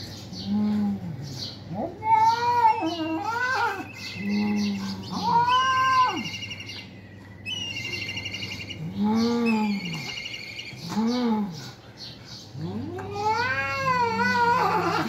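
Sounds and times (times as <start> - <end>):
cats yowling: 0.4 - 6.9, 7.5 - 11.6, 12.6 - 15.0.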